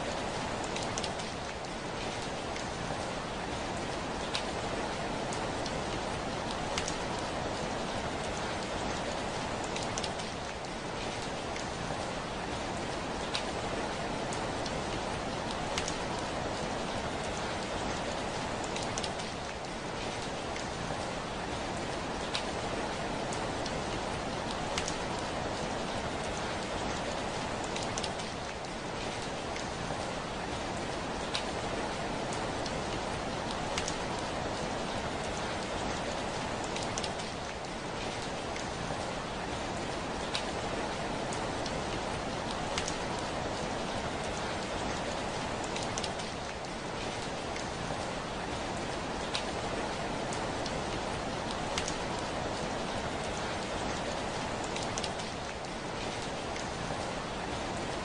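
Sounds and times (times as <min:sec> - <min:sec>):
rain pattering on a window: 0:00.0 - 0:58.0.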